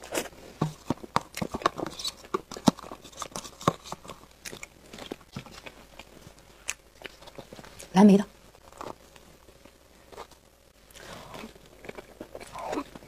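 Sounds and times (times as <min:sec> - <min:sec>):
chewing with mouth clicks: 0:00.0 - 0:07.9, 0:08.6 - 0:13.0.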